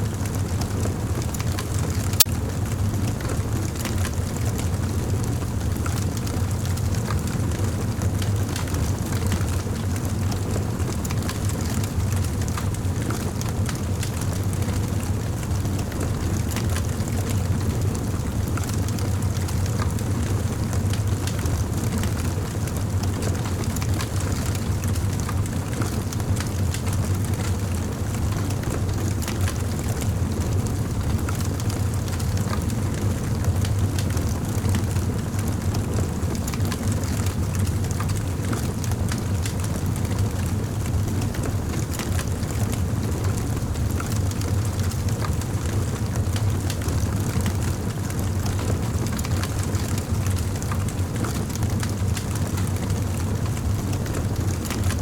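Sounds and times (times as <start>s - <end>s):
fire low rumble: 0.0s - 55.0s
campfire crackling and popping: 0.2s - 55.0s.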